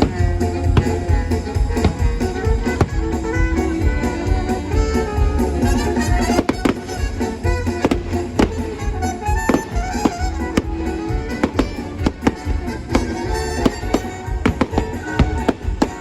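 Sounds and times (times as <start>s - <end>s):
fireworks bangs: 0.0s - 16.0s
melodic music: 0.0s - 16.0s.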